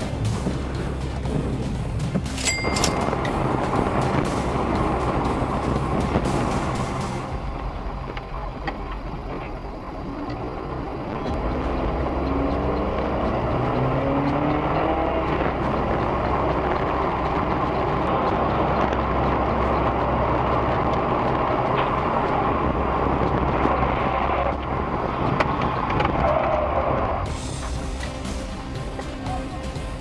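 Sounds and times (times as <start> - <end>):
road noise: 0.0 - 30.0
vehicle engine accelerating: 0.0 - 30.0.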